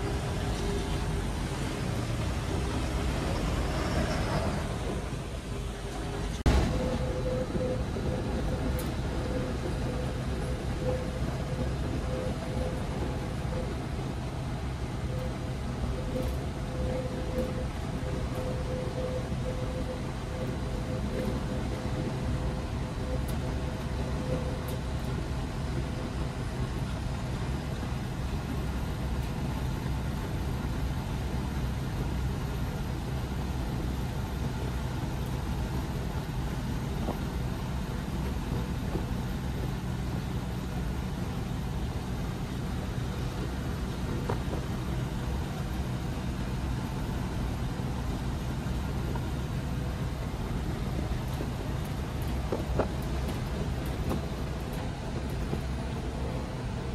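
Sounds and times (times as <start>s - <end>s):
bus engine and road noise: 0.0s - 56.9s
constant low hum: 0.0s - 56.9s.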